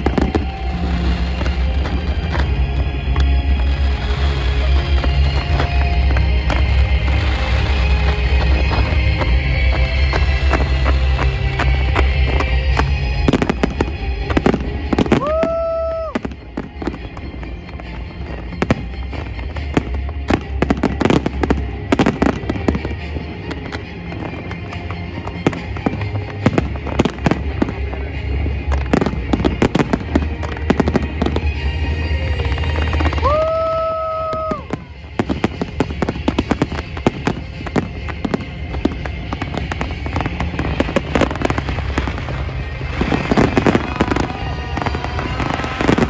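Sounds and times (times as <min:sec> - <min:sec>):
firework whistle: 0:00.0 - 0:28.1, 0:28.7 - 0:46.0
firework bangs and crackling: 0:00.0 - 0:46.0.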